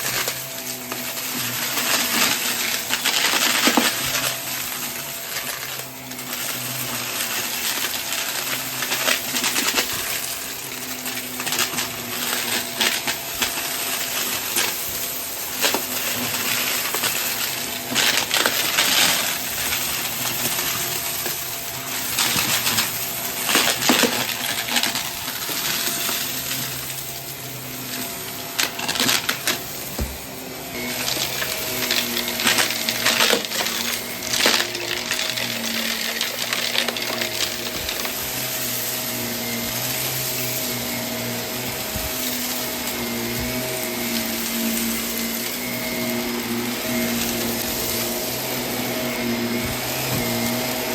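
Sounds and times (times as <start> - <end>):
debris rattling through vacuum: 0.0 - 50.9
vacuum cleaner motor hum: 0.0 - 50.9.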